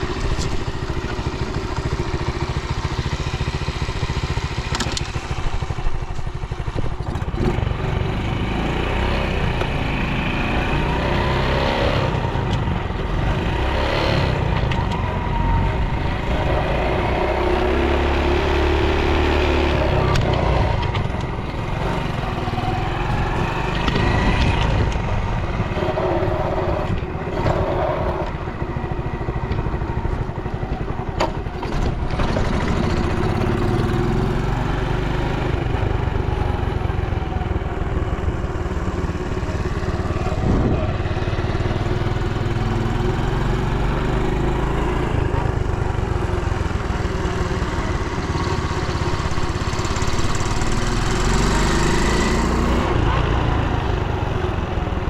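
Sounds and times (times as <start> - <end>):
small motorcycle engine revving: 0.0 - 55.0.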